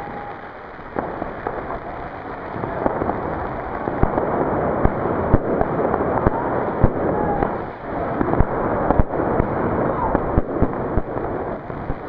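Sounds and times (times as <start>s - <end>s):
distant fireworks: 0.0s - 12.0s
firecrackers banging: 0.0s - 12.0s.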